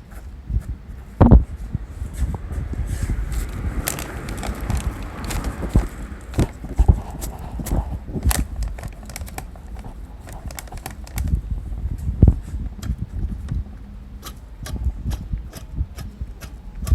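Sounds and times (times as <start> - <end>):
low rumble: 0.3 - 14.2.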